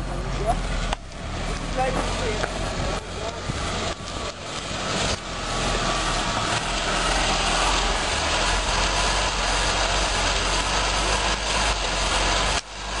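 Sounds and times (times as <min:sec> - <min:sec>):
car engine idling: 0:00.0 - 0:13.0
steady hiss: 0:00.1 - 0:13.0.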